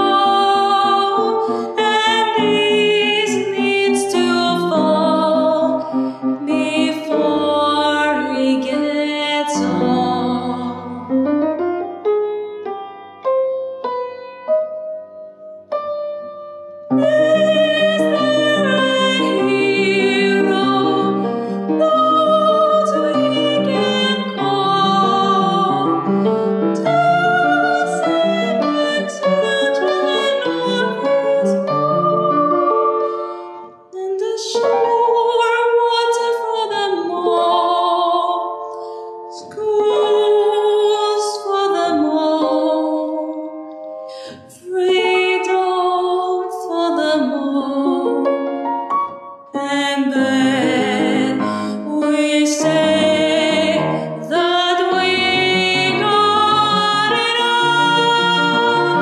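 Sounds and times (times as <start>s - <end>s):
woman singing with vibrato: 0.0s - 11.2s, 16.9s - 33.2s, 33.9s - 38.6s, 39.3s - 43.5s, 44.2s - 48.2s, 49.6s - 59.0s
piano accompaniment: 0.0s - 59.0s.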